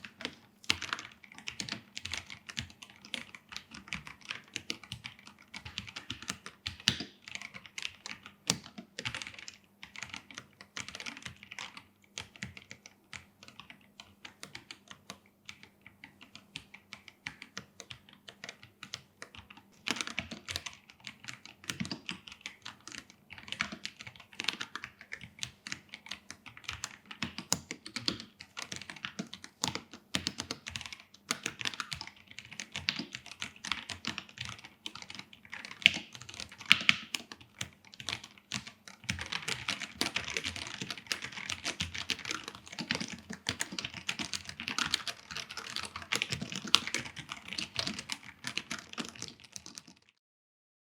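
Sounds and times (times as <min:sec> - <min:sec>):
mechanical keyboard typing: 0:00.0 - 0:50.2.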